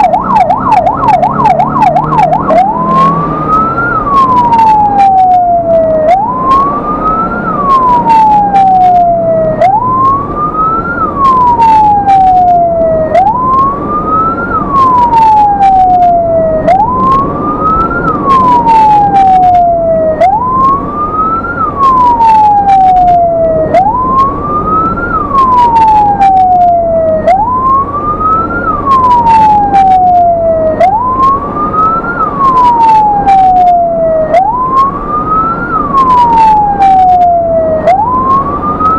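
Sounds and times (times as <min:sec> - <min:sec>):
ambulance siren wailing: 0:00.0 - 0:38.9
engine and road rumble: 0:00.0 - 0:38.9.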